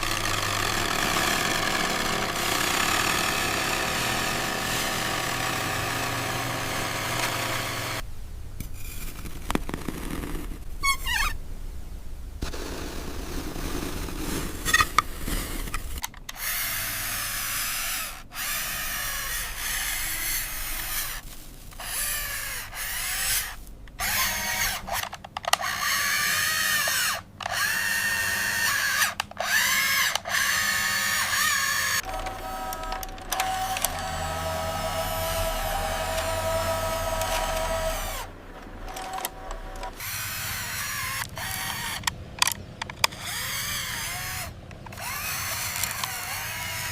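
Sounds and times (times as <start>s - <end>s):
small electric motor whining: 0.0s - 8.0s, 15.6s - 42.1s, 43.0s - 46.9s.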